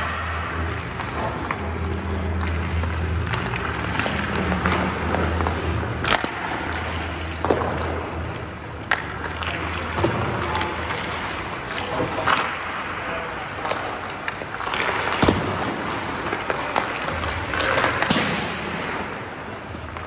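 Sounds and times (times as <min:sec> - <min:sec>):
skates scraping on ice: 0:00.0 - 0:20.0
stick and puck clacks: 0:00.0 - 0:20.0.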